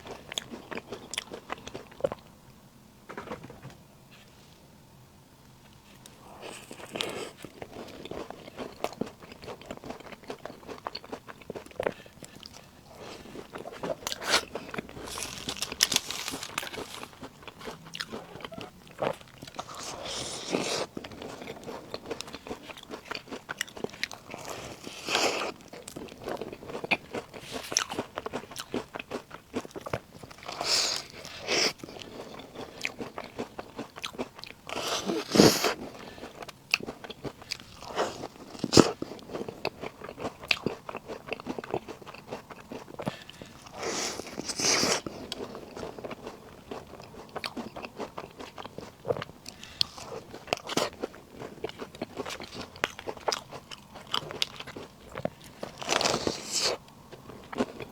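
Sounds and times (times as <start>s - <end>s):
crunchy snack chewing: 6.0s - 57.9s.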